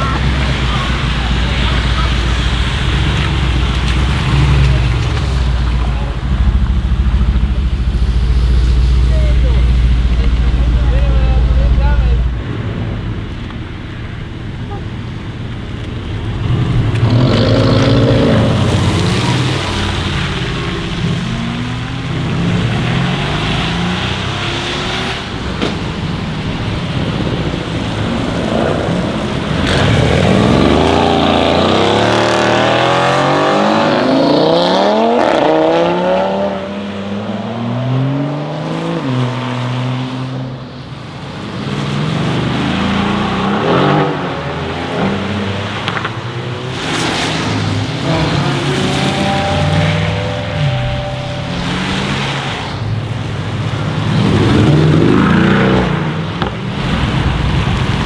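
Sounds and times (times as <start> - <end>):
car engine idling and accelerating: 0.0 - 58.0.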